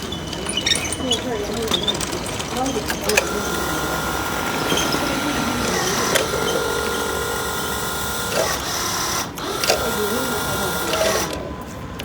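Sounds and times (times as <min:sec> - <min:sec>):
model excavator hydraulic whine: 0:00.0 - 0:12.0.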